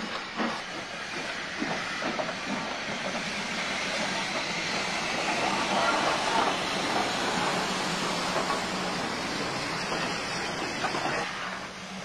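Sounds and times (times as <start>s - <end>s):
train wheels rushing on rails: 0.0s - 12.0s.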